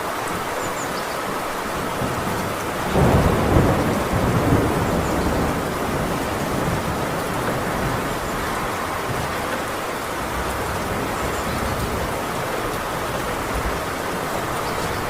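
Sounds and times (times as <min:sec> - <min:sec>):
heavy rain on a tin roof: 0:00.0 - 0:15.0
thunder rumbling: 0:02.0 - 0:15.0.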